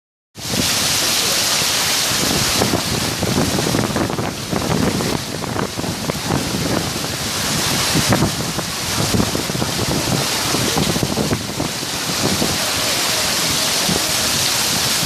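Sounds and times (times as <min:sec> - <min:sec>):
heavy rain pouring: 0:00.4 - 0:15.0
wind buffeting microphone: 0:01.6 - 0:15.0.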